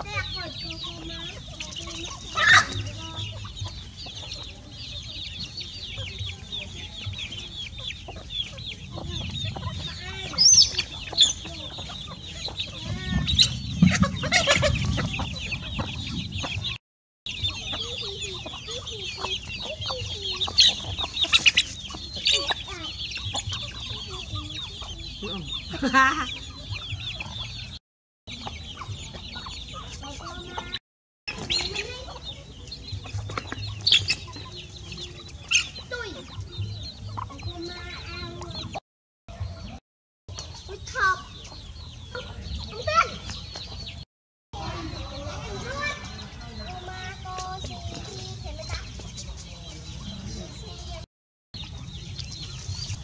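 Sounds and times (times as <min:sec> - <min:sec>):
chickens clucking: 0:00.0 - 0:44.0, 0:44.6 - 0:53.0
chicks cheeping: 0:00.0 - 0:53.0.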